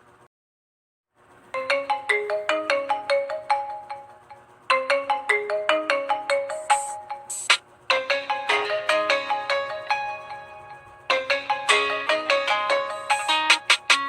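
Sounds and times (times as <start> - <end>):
smartphone ringtone melody: 1.5 - 14.0.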